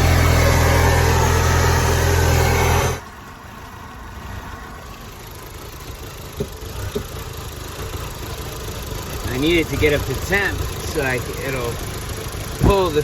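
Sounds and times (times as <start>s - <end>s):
car engine running: 0.0s - 3.1s, 4.8s - 13.0s.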